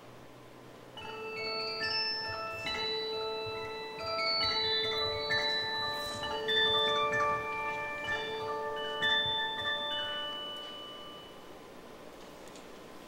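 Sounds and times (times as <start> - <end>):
bell-like chiming music: 1.0 - 11.6.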